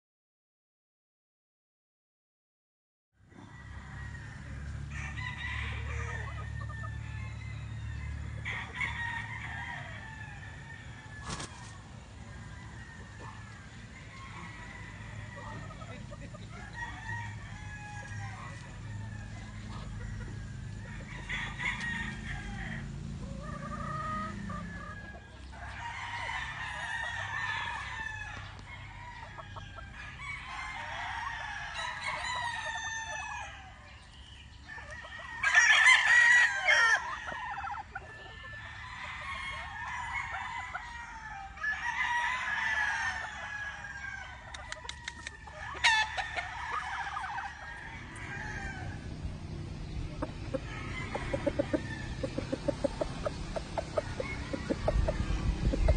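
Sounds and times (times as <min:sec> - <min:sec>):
roosters crowing: 0:03.2 - 0:55.9
chickens clucking: 0:09.5 - 0:41.6, 0:42.2 - 0:55.9.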